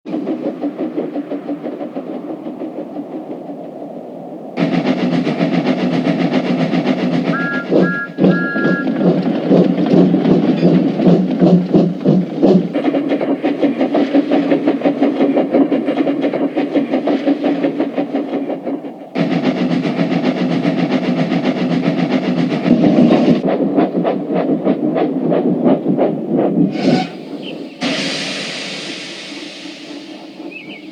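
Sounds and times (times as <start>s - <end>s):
train clattering on track: 0.1s - 30.9s.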